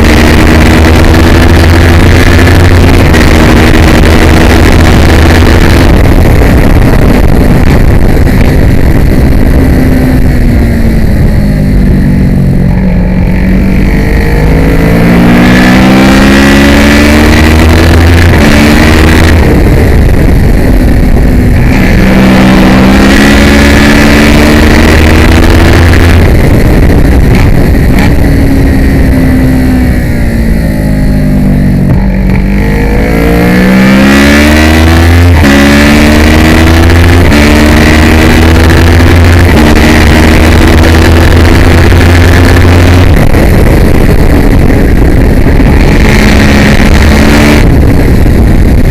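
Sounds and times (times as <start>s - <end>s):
racing motorcycle engine revving: 0.0s - 48.9s.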